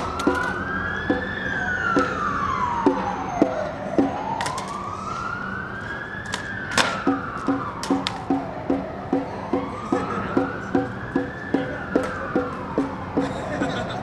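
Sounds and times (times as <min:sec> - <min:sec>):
wailing siren: 0:00.0 - 0:14.0.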